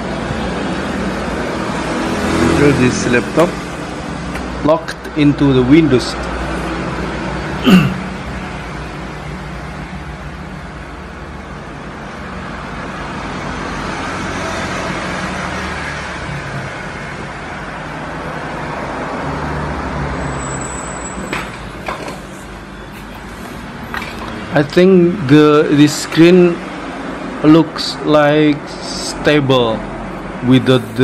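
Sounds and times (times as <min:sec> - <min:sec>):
road traffic rumble and hiss: 0:00.0 - 0:31.0.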